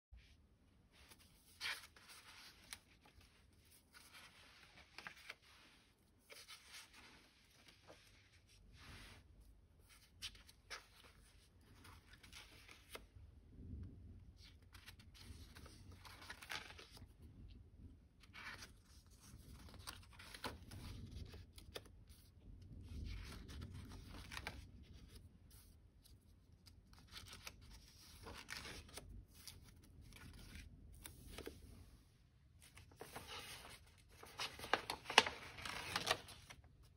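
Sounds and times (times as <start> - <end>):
paper rustling: 1.0 - 13.1, 14.4 - 17.1, 18.2 - 36.9.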